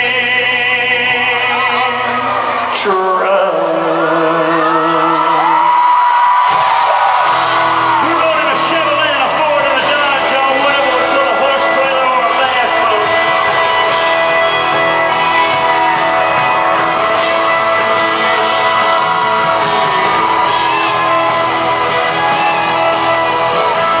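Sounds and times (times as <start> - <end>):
guitars: 0.0 - 24.0
live country band playing: 0.0 - 24.0
crowd shouting: 4.5 - 24.0.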